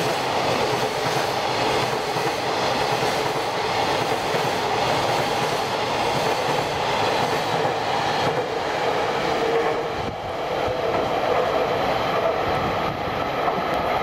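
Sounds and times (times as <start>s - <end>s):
freight train wheels on track: 0.0s - 14.0s.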